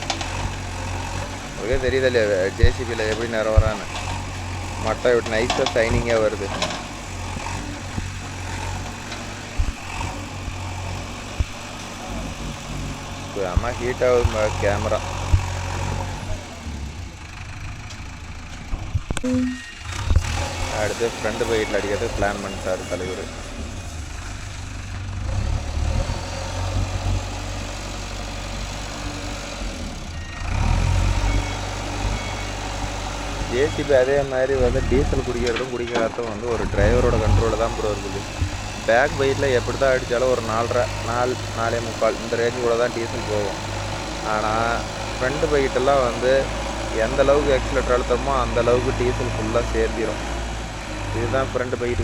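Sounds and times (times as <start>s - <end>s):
diesel engine running steadily: 0.0s - 52.0s.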